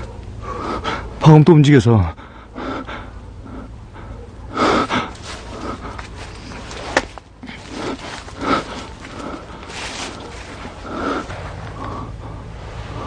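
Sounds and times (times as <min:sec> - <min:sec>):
person breathing hard: 0:00.4 - 0:01.2, 0:02.2 - 0:13.0
sharp breaths: 0:02.2 - 0:13.0.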